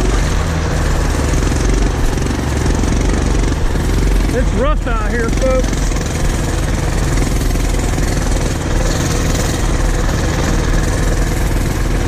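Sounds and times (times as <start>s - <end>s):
minibike engine running: 0.0s - 12.0s.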